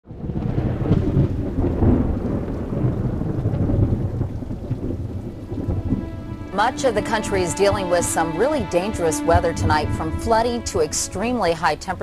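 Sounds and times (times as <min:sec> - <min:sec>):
steady rain: 0:00.1 - 0:12.0
thunder rumbling: 0:00.1 - 0:12.0.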